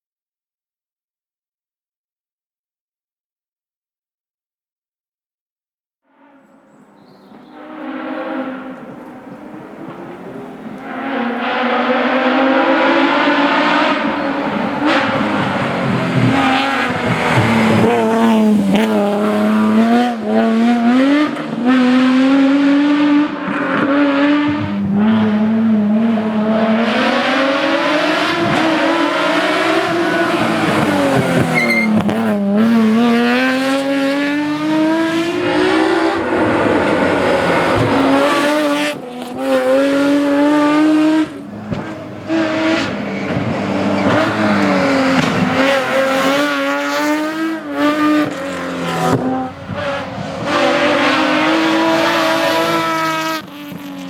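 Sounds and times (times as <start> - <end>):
rally car engine accelerating: 6.1 - 54.0.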